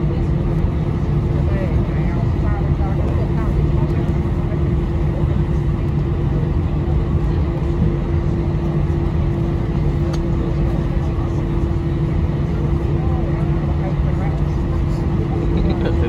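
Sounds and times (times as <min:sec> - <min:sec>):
aircraft cabin engine drone: 0:00.0 - 0:16.0
constant hum: 0:00.0 - 0:16.0.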